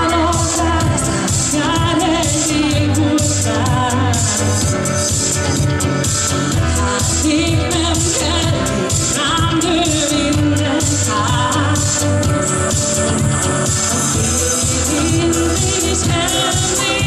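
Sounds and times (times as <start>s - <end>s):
backing track with dance beat: 0.0s - 17.0s
woman singing into a microphone: 0.0s - 17.0s.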